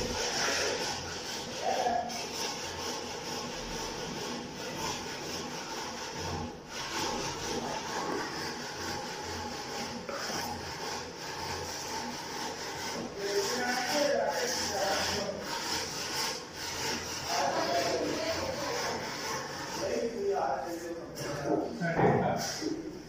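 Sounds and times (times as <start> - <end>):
hand tool scraping wallpaper: 0.0 - 23.0.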